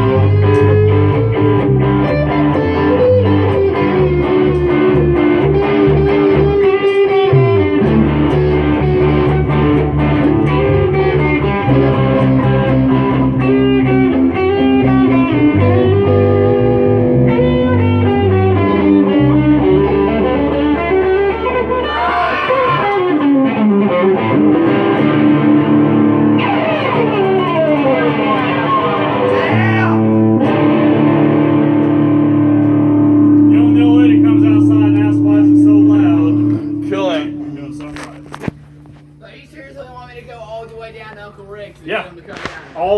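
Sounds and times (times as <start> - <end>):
guitar instrumental over bass: 0.0 - 40.9.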